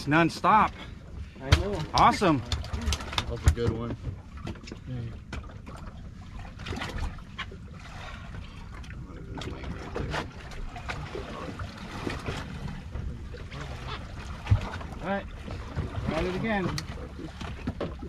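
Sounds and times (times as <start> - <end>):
waves slapping against boat hull: 0.0 - 18.0.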